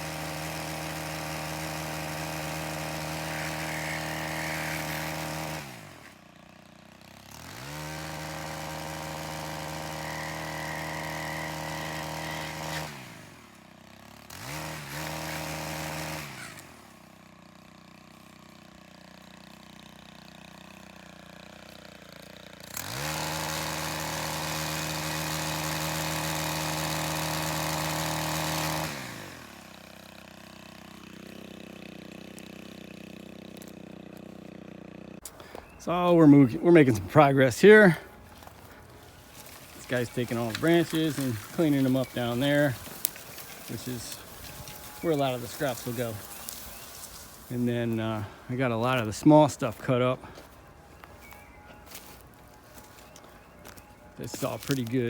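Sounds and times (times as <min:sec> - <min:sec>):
chainsaw cutting branches: 0:00.0 - 0:55.0.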